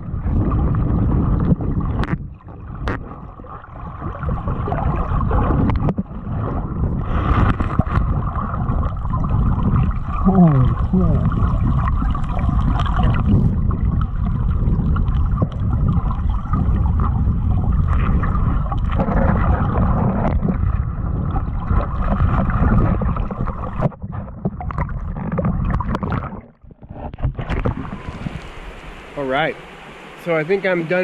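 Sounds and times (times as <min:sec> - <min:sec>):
underwater river current rushing: 0:00.0 - 0:31.0.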